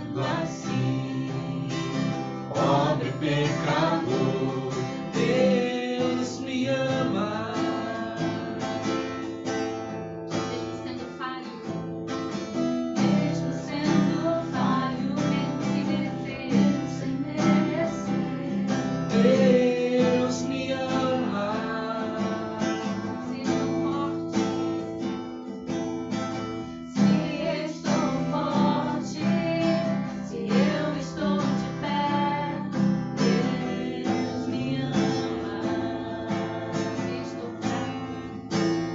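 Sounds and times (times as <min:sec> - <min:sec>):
person singing: 0:00.0 - 0:09.2, 0:13.0 - 0:24.8, 0:26.9 - 0:38.4
strummed acoustic guitar: 0:00.0 - 0:38.9.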